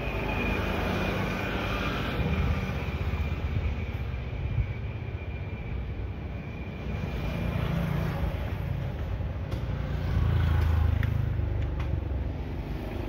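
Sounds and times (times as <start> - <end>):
motor vehicles passing: 0.0 - 13.0.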